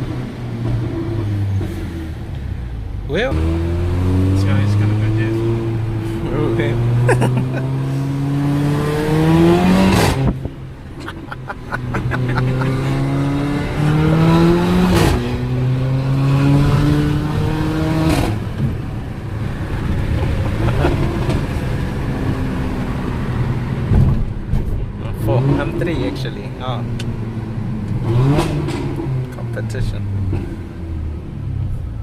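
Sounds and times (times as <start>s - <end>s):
car engine accelerating: 0.0s - 31.8s.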